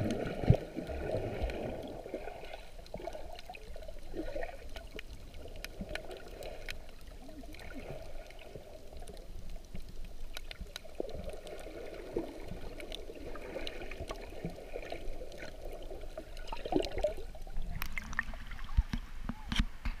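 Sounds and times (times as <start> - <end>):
underwater swirling wash: 0.0 - 9.6, 10.6 - 19.1
faint underwater clicks: 0.0 - 20.0.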